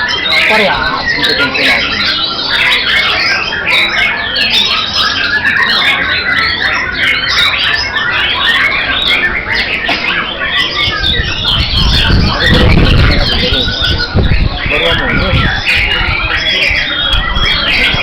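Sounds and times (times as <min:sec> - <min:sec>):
birds singing in chorus: 0:00.0 - 0:18.0.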